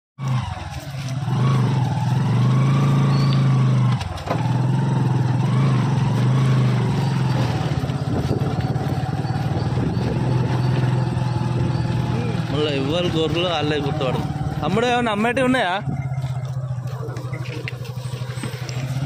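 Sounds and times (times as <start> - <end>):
vehicle engine low hum: 0.2 - 19.0.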